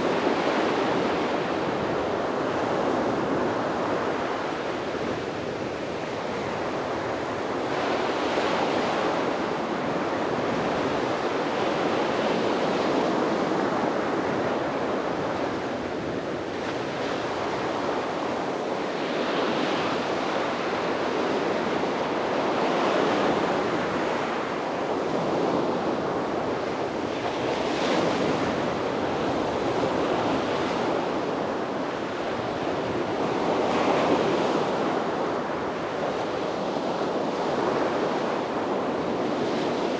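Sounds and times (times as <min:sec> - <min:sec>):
sea waves breaking on beach: 0:00.0 - 0:39.9
wind on microphone: 0:00.0 - 0:39.9.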